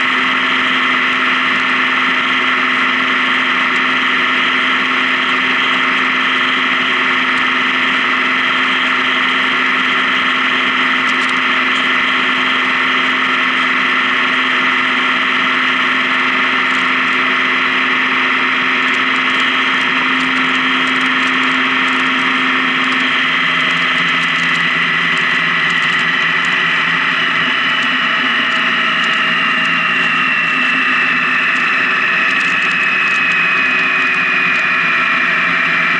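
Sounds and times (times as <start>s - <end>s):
motorcycle engine hum: 0.0s - 35.9s.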